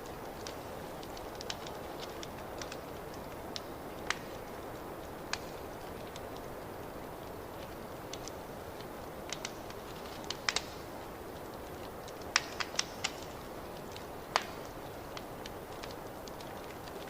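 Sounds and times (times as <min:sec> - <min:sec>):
fire popping and snapping: 0:00.0 - 0:17.0.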